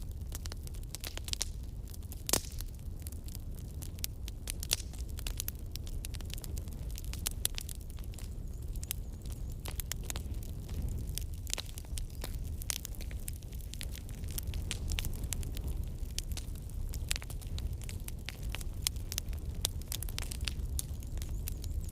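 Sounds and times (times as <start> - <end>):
campfire crackling: 0.0 - 21.9
low rumble of flame: 0.0 - 21.9.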